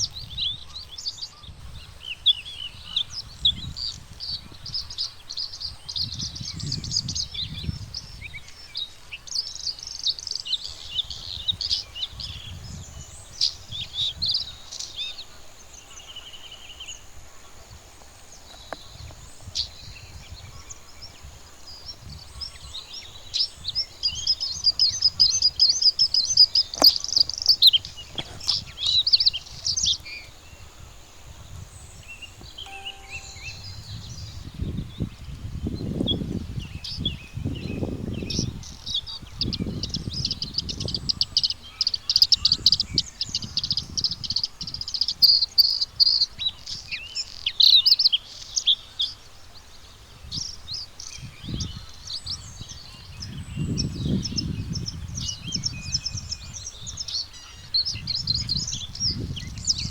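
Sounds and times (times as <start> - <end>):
bird twittering song: 0.0 - 59.9.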